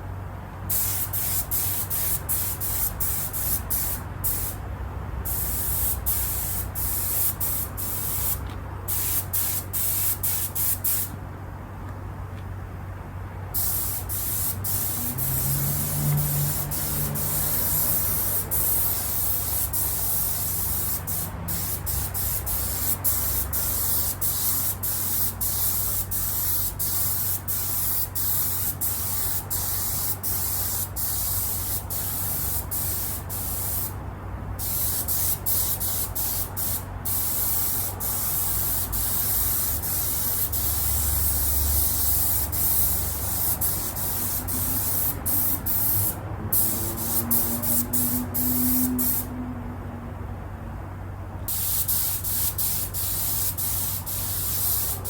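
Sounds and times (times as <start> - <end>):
spray paint hissing: 0.7 - 4.6, 5.3 - 11.2, 13.6 - 34.0, 34.6 - 49.3, 51.5 - 55.0.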